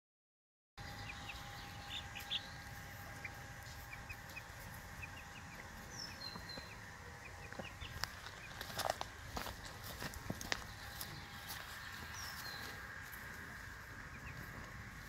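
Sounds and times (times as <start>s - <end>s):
chicks peeping: 0.8s - 15.0s.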